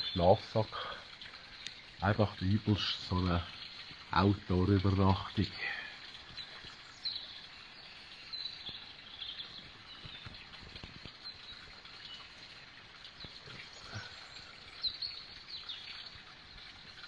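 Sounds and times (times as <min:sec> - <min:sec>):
songbirds chirping: 0:00.0 - 0:17.0
water babbling: 0:00.0 - 0:17.0.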